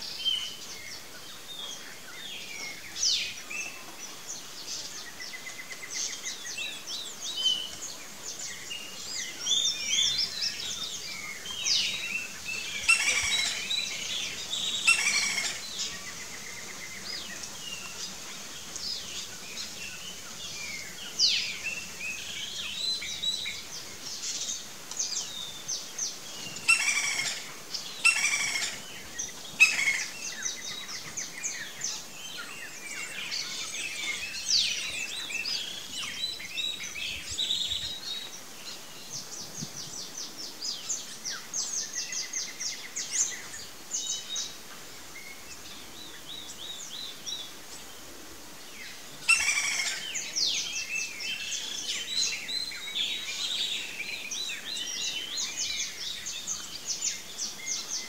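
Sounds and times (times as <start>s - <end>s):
many birds calling and singing: 0.0s - 58.0s.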